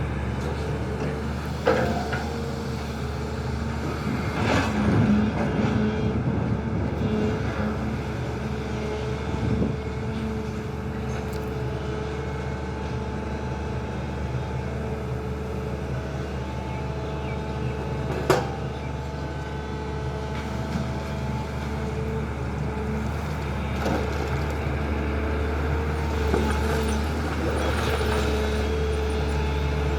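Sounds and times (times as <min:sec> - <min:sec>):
excavator diesel engine running: 0:00.0 - 0:29.9.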